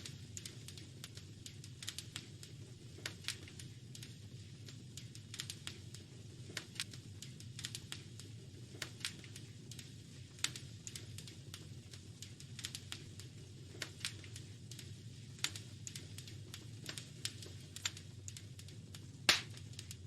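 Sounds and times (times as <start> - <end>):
fire popping and snapping: 0.0 - 20.0
wood fire crackling: 0.0 - 20.0.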